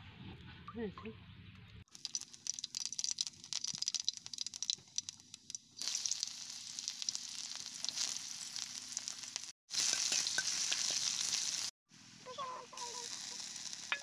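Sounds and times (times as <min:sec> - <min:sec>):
onion sizzling in oil: 0:01.9 - 0:14.0
seeds crackling in hot oil: 0:01.9 - 0:14.0.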